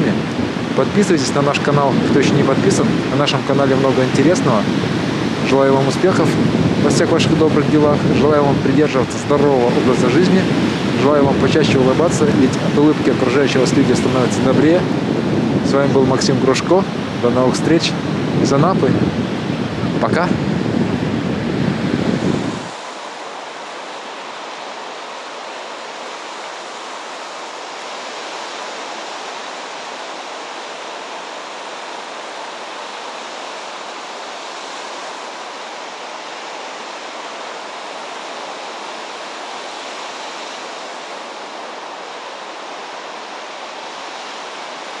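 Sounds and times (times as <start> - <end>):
waves washing onto sandy shore: 0.0 - 45.0.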